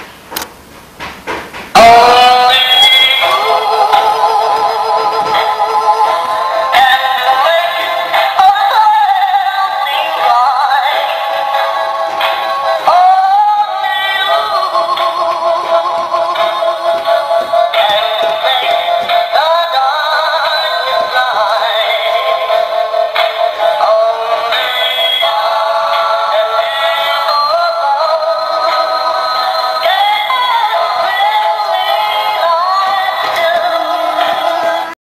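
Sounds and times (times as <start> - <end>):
toy synthetic singing voice: 1.8 - 11.8, 16.7 - 34.9.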